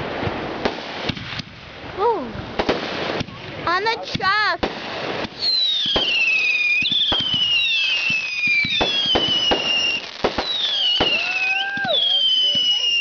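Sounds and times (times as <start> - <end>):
fireworks popping and cracking: 0.0 - 13.0
fireworks whistling: 2.6 - 13.0.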